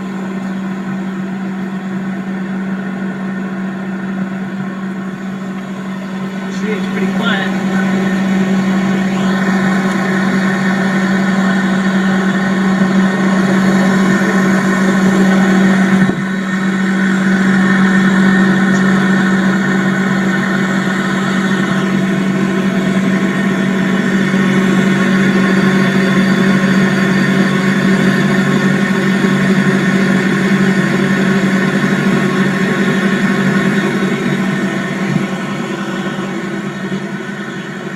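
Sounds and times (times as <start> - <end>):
refrigerator compressor humming: 0.0 - 37.9.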